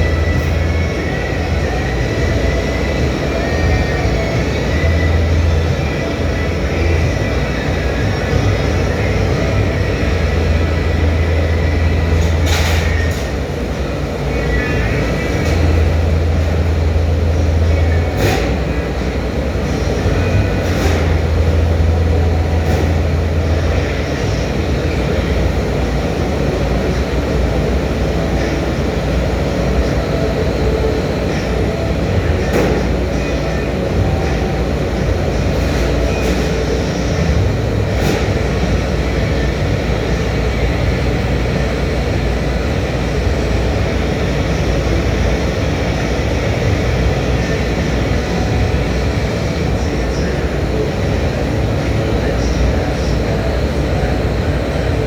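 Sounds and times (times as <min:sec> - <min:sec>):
loud machinery noise: 0:00.0 - 0:55.0.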